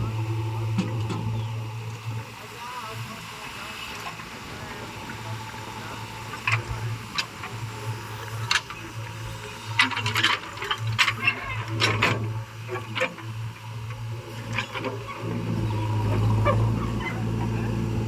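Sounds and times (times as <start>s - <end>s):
diesel engine humming: 0.0s - 3.7s, 4.4s - 18.0s.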